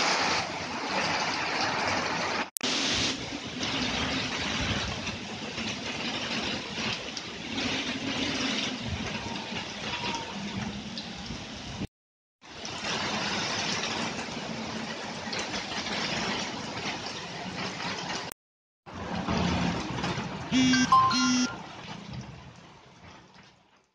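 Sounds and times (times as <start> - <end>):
heavy rain: 0.0 - 23.8.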